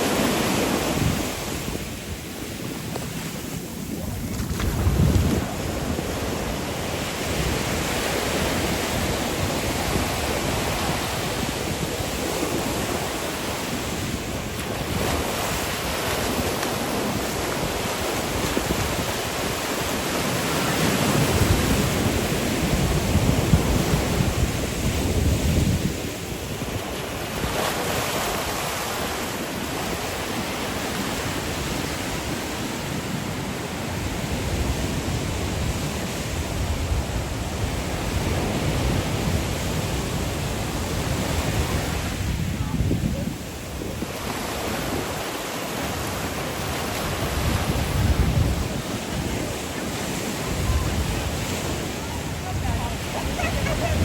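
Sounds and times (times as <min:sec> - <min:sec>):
surf breaking on sand: 0:00.0 - 0:54.0
wind buffeting microphone: 0:00.0 - 0:54.0.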